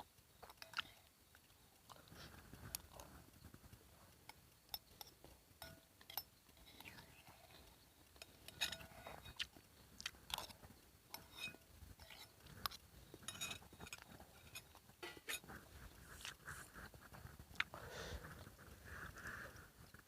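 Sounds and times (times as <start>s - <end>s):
small clicks and crackles: 0.0s - 20.0s
person chewing and crunching food: 0.4s - 20.0s.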